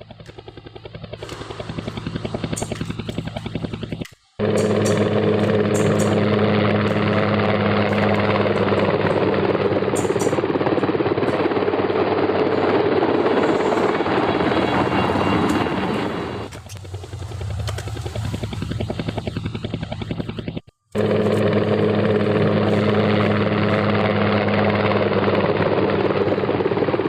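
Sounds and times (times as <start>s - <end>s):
motor humming: 0.0s - 27.0s.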